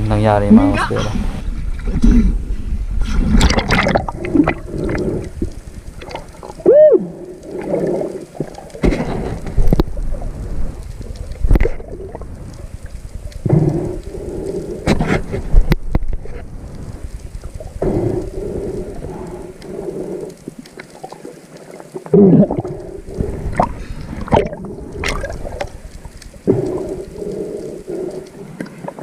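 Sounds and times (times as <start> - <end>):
underwater bubbles gurgling: 1.3 - 29.0.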